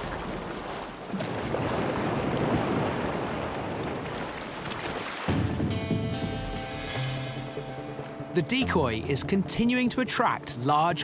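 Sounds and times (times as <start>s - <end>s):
seawater rushing and splashing: 0.0s - 11.0s.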